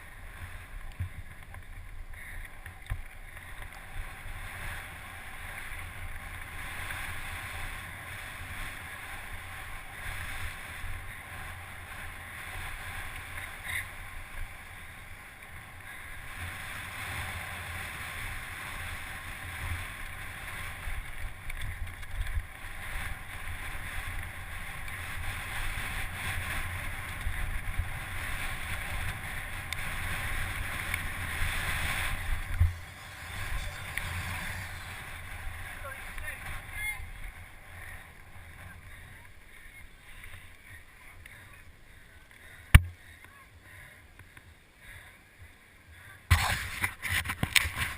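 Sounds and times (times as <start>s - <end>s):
wind rushing over microphone: 0.0s - 41.8s.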